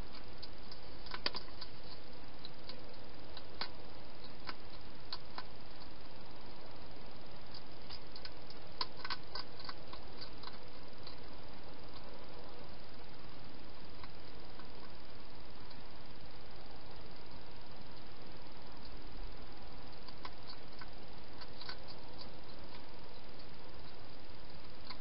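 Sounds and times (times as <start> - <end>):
hedgehog eating clicks and crunches: 0.0 - 16.2, 16.8 - 25.0
steady hiss: 0.0 - 25.0.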